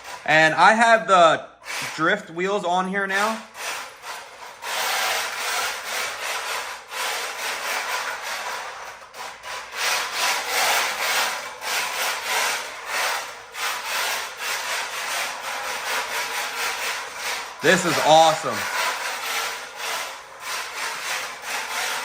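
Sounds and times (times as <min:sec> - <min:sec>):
toy car wheels scraping floor: 0:00.0 - 0:22.0.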